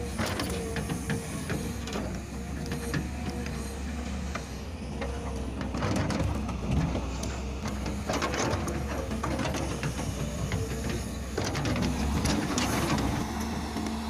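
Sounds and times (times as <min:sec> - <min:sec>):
hydraulic excavator running: 0:00.0 - 0:14.0.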